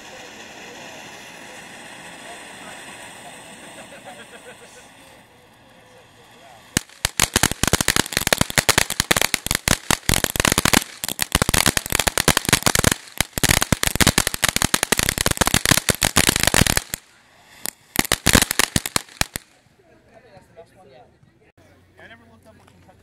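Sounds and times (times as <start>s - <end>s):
firework crackling and popping: 0.0s - 19.6s.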